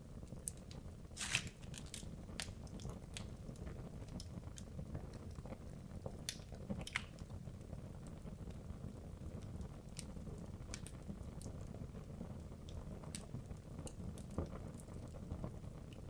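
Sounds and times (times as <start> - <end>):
fire crackling and popping: 0.1 - 16.0.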